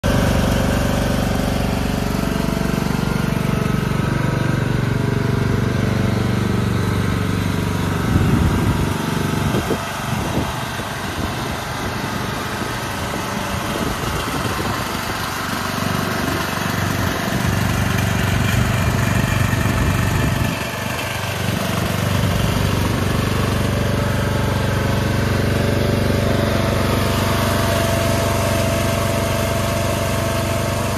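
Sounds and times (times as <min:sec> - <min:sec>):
riding lawn mower engine running: 0:00.0 - 0:30.9.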